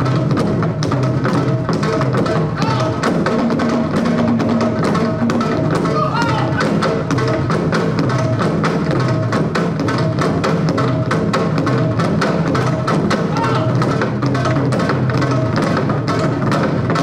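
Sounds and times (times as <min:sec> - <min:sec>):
barrel drums beaten with sticks: 0:00.0 - 0:17.0.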